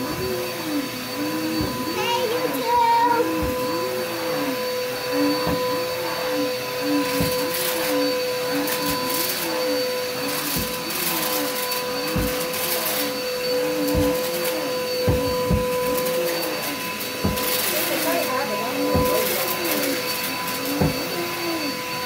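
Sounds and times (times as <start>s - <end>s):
vacuum cleaner running on carpet: 0.0s - 22.0s.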